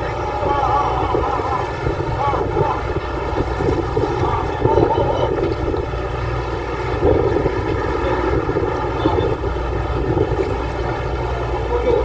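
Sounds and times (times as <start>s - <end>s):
boat engine droning: 0.0s - 12.0s
rushing wind and water: 0.0s - 12.0s.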